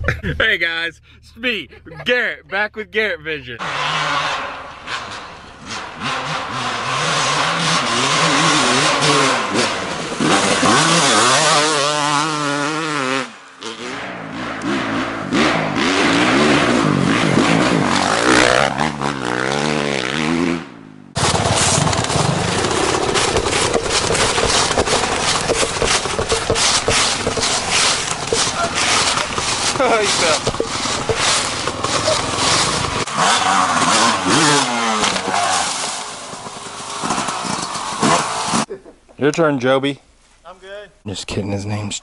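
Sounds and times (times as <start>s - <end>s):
dirt bike engine revving: 3.6s - 38.7s.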